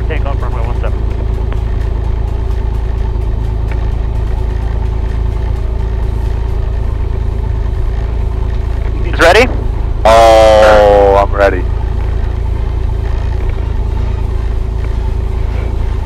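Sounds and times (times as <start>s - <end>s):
piston engine droning: 0.0s - 16.0s.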